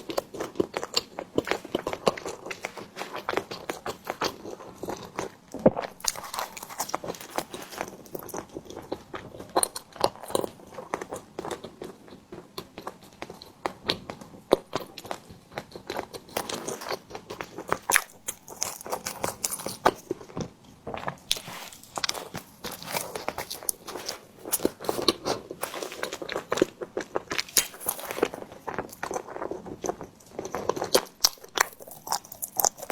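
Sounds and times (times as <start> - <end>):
person chewing with mouth clicks: 0.0 - 32.9.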